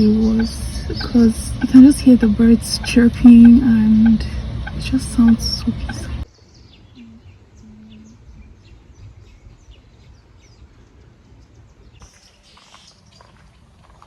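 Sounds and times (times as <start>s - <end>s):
low background rumble: 0.0s - 12.0s
small birds chirping: 0.0s - 14.0s.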